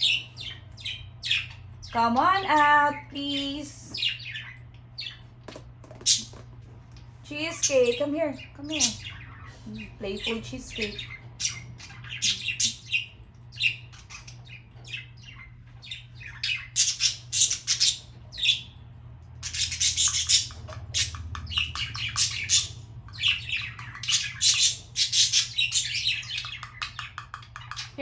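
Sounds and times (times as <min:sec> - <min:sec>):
budgerigars chattering: 0:00.0 - 0:05.2, 0:07.4 - 0:18.8, 0:19.4 - 0:28.0.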